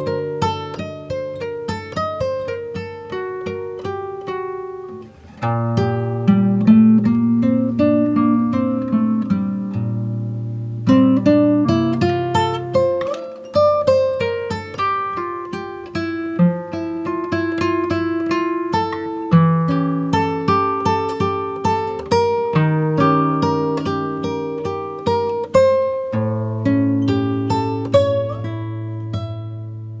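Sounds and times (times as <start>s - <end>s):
acoustic guitar plucking: 0.0s - 30.0s.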